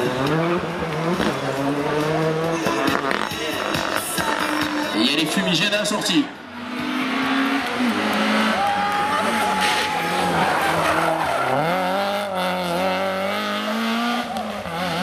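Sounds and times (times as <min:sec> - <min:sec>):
car engine revving hard: 0:00.0 - 0:05.0, 0:06.4 - 0:15.0
tyres squealing and skidding: 0:02.6 - 0:15.0.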